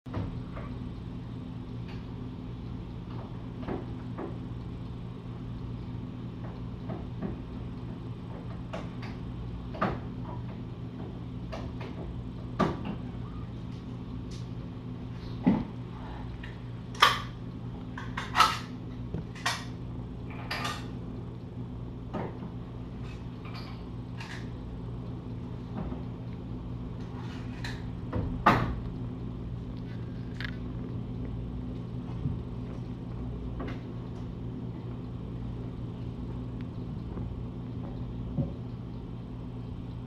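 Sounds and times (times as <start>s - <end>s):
low electrical hum: 0.1s - 40.0s.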